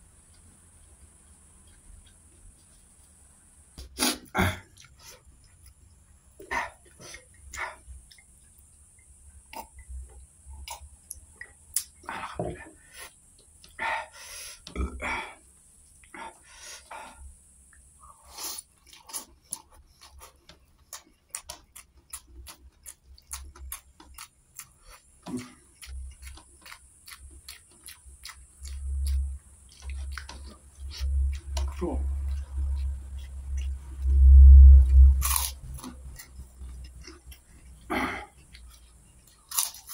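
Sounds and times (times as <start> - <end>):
person chewing with wet smacks: 0.0 - 3.2, 3.8 - 12.5, 17.7 - 39.9.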